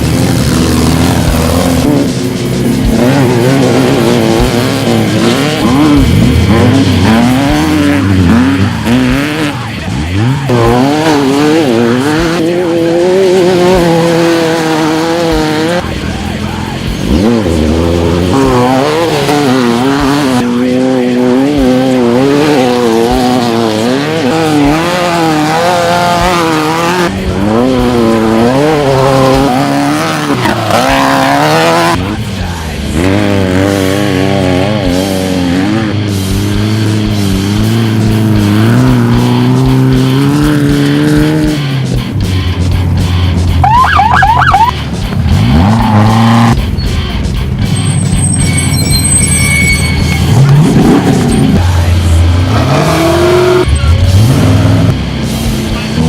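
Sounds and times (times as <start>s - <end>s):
truck engine revving hard: 0.0s - 56.0s.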